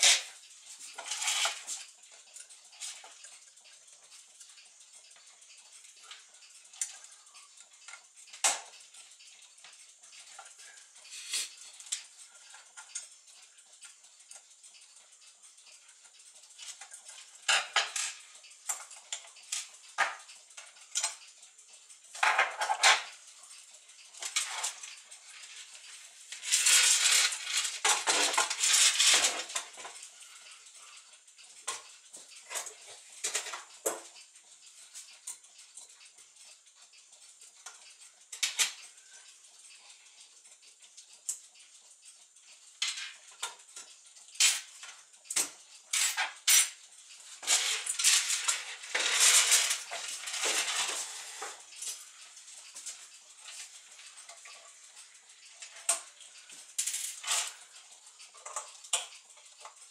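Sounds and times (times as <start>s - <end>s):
metal clock parts clinking: 0.0s - 59.9s.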